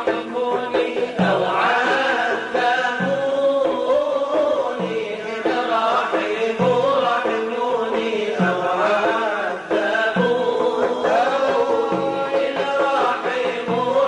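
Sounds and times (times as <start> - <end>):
devotional chanting: 0.0 - 14.0.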